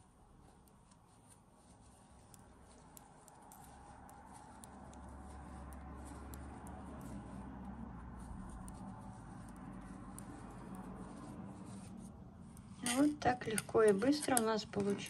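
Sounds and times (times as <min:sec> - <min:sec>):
knitting needles clicking: 0:00.0 - 0:15.0
yarn rubbing: 0:00.0 - 0:15.0.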